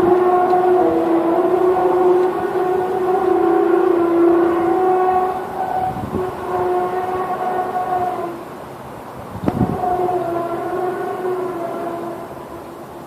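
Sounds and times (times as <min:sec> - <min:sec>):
horn-like drone: 0:00.0 - 0:13.0.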